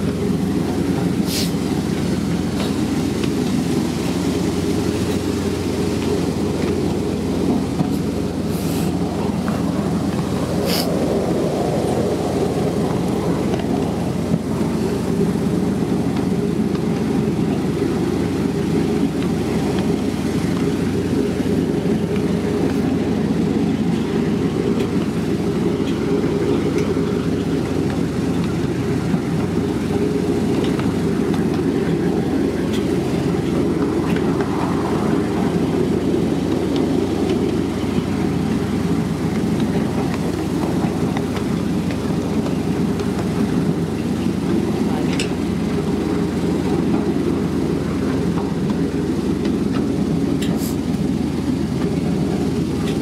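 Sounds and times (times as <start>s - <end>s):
miniature train running on track: 0.0s - 53.0s.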